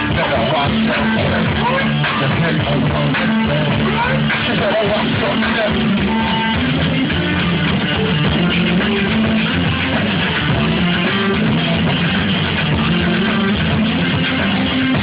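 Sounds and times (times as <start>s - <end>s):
bass: 0.0s - 15.0s
distorted electric guitar: 0.0s - 15.0s
drum kit: 0.0s - 15.0s.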